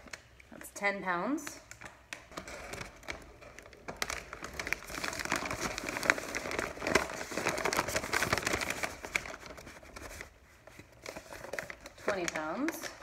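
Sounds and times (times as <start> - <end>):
paper and foil bags crinkling: 1.5 - 13.0.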